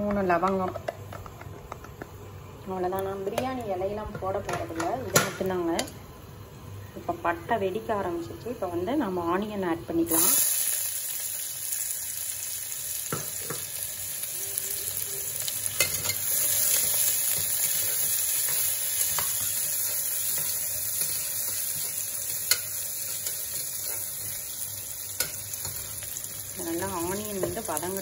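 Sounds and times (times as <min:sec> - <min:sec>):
onions sizzling in hot oil: 0:05.2 - 0:28.0.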